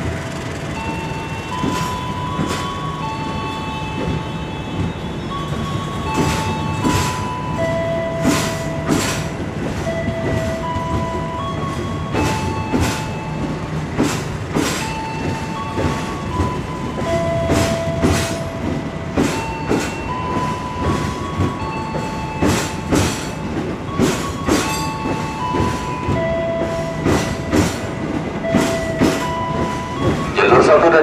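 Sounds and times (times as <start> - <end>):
train rumble: 0.0 - 31.0
train wheels clacking over rail joints: 0.0 - 31.0.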